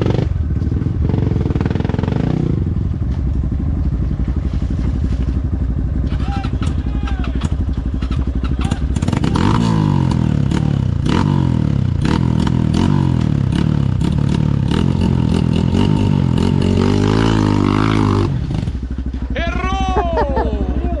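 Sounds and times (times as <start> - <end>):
dirt bike engine revving: 0.0 - 3.1, 4.7 - 21.0.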